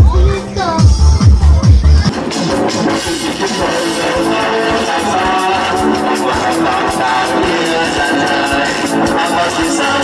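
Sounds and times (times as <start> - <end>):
backing beat: 0.0 - 10.0
electronic keyboard music: 0.0 - 10.0.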